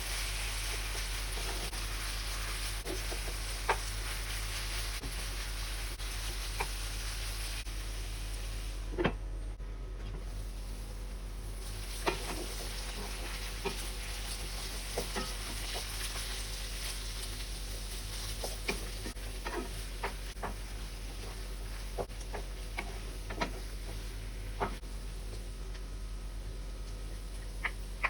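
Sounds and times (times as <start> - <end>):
vegetables sizzling in a pan: 0.0 - 9.0, 10.2 - 26.6.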